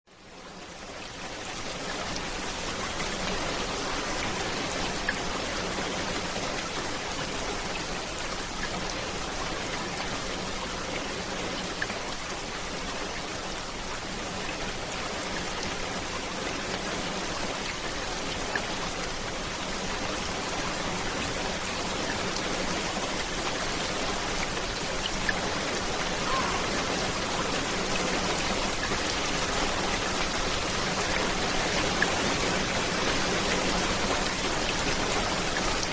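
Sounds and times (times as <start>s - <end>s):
steady rain falling: 0.1s - 35.9s.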